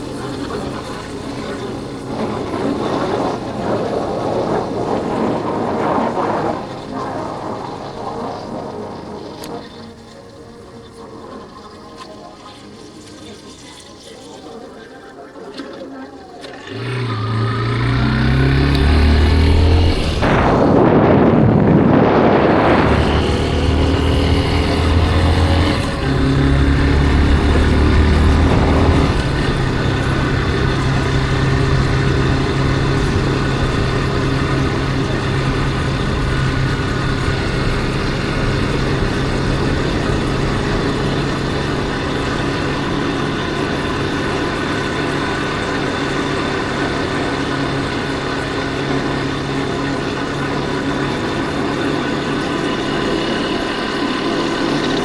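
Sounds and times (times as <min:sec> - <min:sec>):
motorcycle engine running: 0:00.0 - 0:10.2, 0:16.4 - 0:55.0
wind noise: 0:00.0 - 0:12.6, 0:16.7 - 0:55.0.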